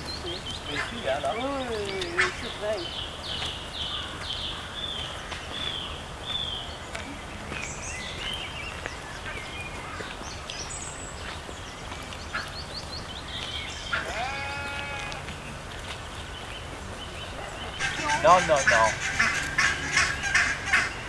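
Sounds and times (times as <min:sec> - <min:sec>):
swan cygnets peeping: 0:00.0 - 0:21.0.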